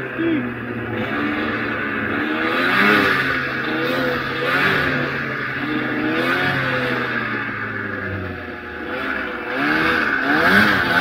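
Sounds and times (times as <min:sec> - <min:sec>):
snowmobile engine revving: 0:00.0 - 0:11.0
steady rushing noise: 0:00.0 - 0:11.0.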